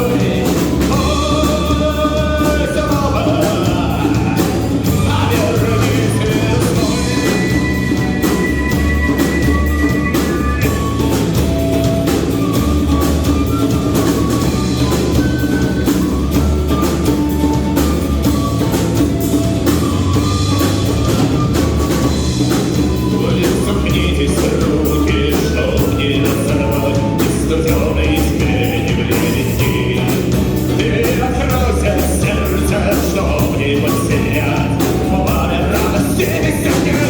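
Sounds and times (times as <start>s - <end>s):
drum kit beating: 0.0s - 37.0s
guitar: 0.0s - 37.0s.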